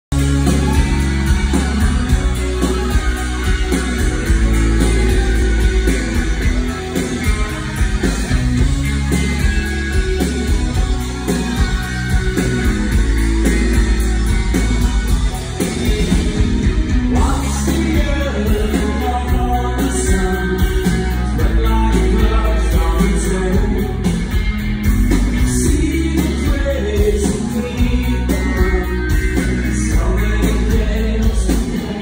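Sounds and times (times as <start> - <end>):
steady drums: 0.0 - 32.0
electric guitar: 0.1 - 32.0
keyboards: 0.1 - 32.0.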